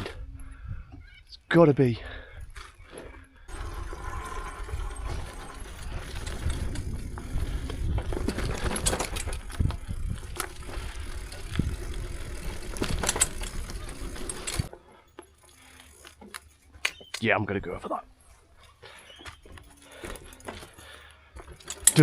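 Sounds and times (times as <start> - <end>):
bicycle frame rattling: 2.9 - 22.0.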